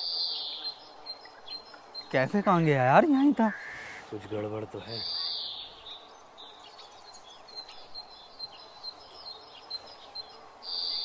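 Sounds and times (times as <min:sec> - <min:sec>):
faint outdoor background: 0:00.0 - 0:11.0
small birds chirping: 0:00.0 - 0:11.0.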